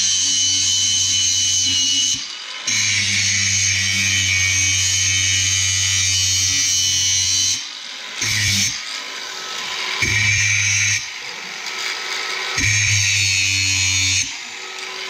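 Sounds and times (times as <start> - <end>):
grinder grinding metal: 0.0 - 15.0.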